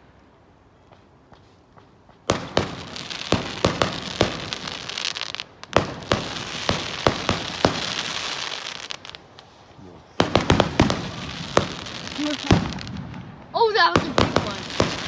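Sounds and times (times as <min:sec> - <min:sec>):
fireworks crackling: 0:00.0 - 0:15.0
fireworks bangs: 0:00.9 - 0:15.0.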